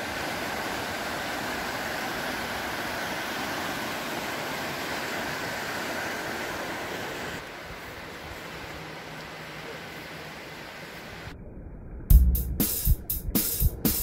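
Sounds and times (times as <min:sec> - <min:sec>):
river rushing over boulders: 0:00.0 - 0:11.3.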